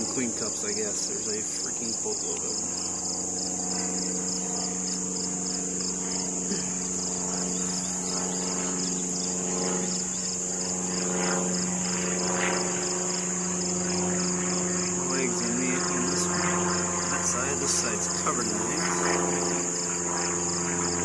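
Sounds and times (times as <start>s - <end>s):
high pulsing insect trill: 0.0s - 21.0s
honey bees buzzing: 0.0s - 21.0s.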